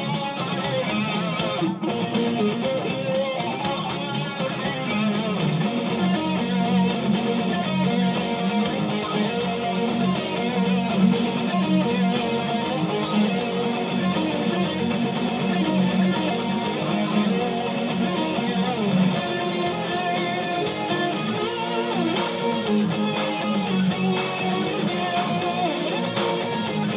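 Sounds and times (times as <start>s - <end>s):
strummed guitar and bass music: 0.0s - 26.9s.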